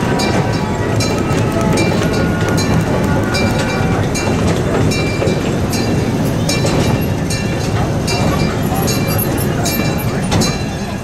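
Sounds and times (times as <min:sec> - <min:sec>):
train cars rumbling on track: 0:00.0 - 0:11.0.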